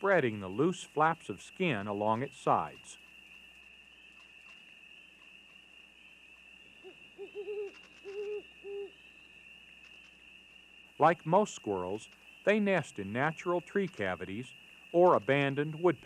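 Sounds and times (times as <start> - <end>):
night insects chirring: 0.0 - 16.0
owl hooting: 1.7 - 16.0.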